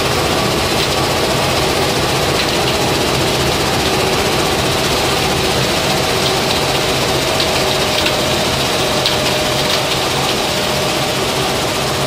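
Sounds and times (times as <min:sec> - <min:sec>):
crushing machinery din: 0:00.5 - 0:10.9
light ticks: 0:00.8 - 0:10.6.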